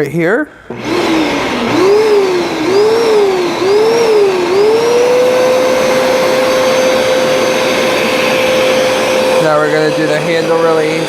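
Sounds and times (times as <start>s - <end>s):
carpet cleaner suction rush: 0.7s - 11.0s
motor whine: 0.7s - 11.0s.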